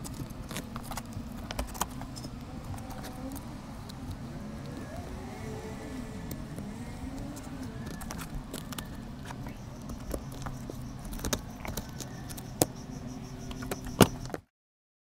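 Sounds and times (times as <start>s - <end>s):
low engine-like hum: 0.0s - 14.4s.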